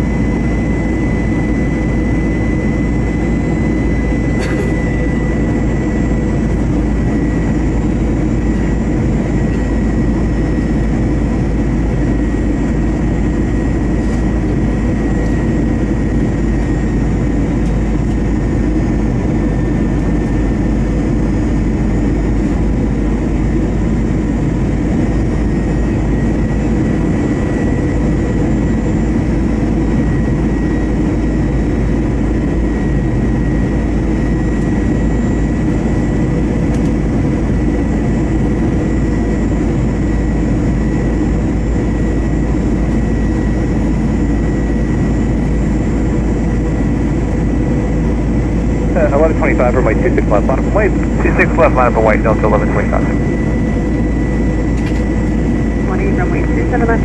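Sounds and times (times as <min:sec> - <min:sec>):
airplane cabin airflow rush: 0:00.0 - 0:57.0
jet engines whining: 0:00.0 - 0:57.0.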